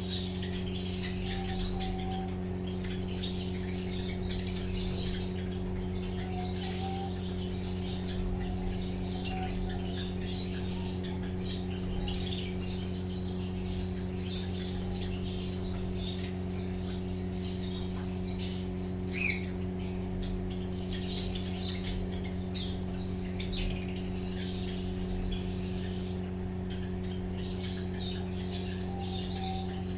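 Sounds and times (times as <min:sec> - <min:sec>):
cage birds chirping: 0:00.0 - 0:29.9
steady low hum: 0:00.0 - 0:29.9.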